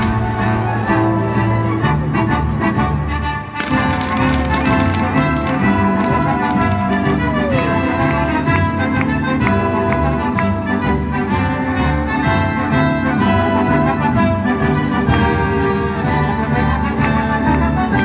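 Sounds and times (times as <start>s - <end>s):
symphony orchestra playing: 0.0s - 18.0s.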